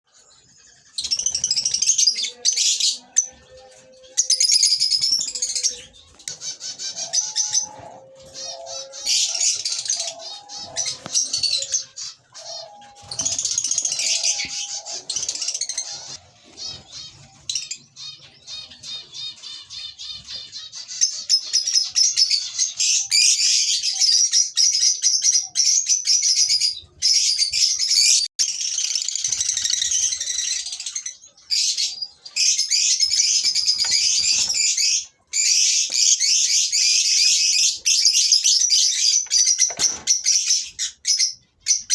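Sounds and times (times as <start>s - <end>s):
lovebirds chattering: 0.1s - 41.9s.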